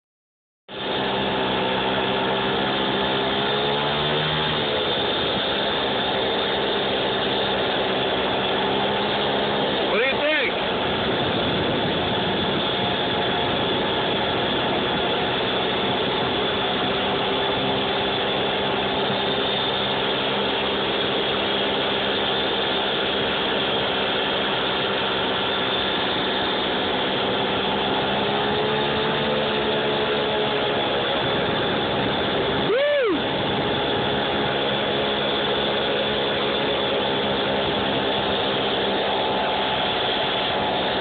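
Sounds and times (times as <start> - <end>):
small motorbike engine running: 0.7 - 41.0.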